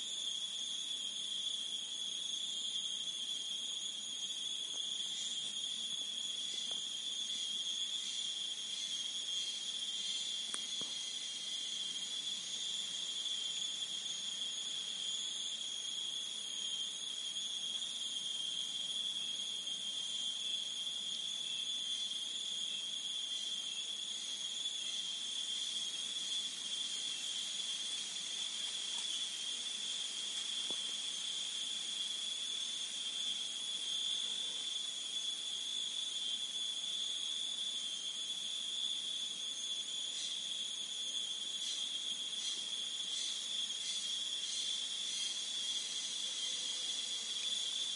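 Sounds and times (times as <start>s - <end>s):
forest insects chorus: 0.0s - 47.9s.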